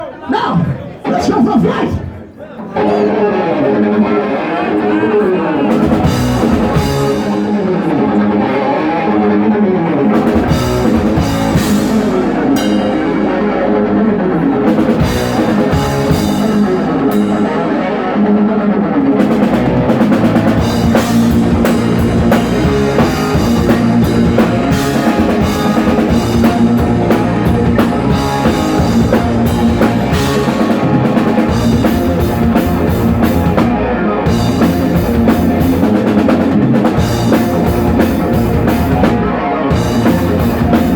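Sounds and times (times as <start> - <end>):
heavy metal band playing live: 2.8 - 40.9.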